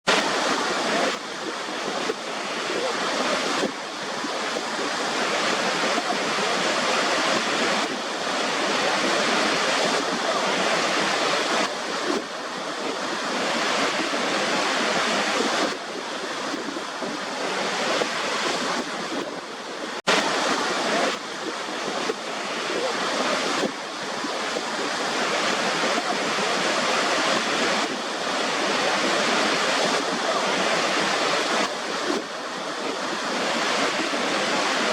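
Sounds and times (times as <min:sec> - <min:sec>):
rushing water: 0:00.1 - 0:34.9.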